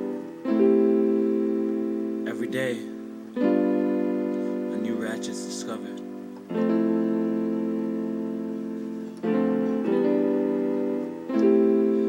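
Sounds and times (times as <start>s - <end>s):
ringing keyboard chords: 0.0s - 12.0s.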